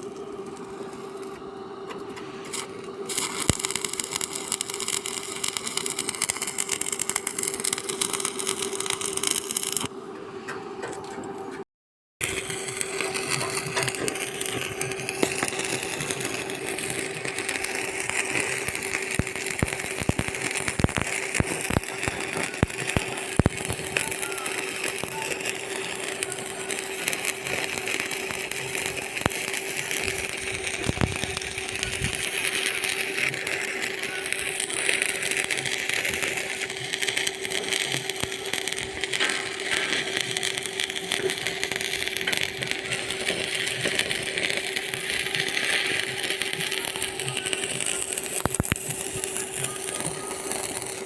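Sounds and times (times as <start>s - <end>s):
welding crackling pops: 0.0s - 9.9s, 12.2s - 51.0s
arc welding hiss and hum: 0.0s - 10.0s, 12.2s - 51.0s.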